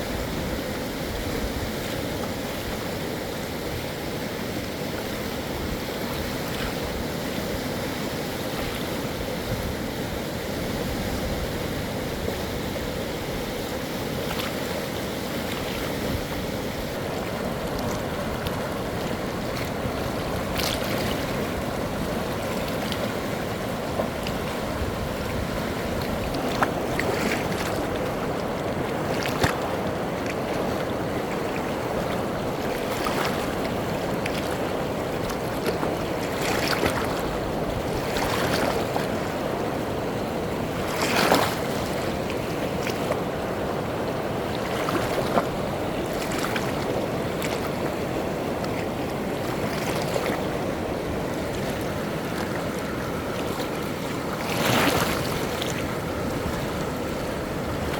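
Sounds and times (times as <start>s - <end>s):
floodwater rushing: 0.0s - 57.9s.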